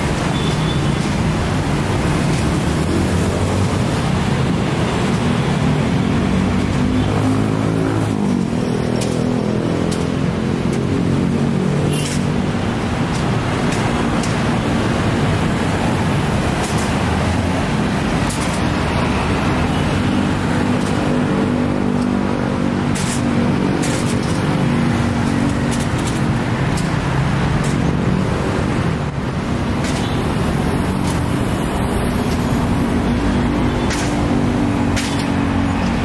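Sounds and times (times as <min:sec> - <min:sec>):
city traffic passing: 0:00.0 - 0:36.0.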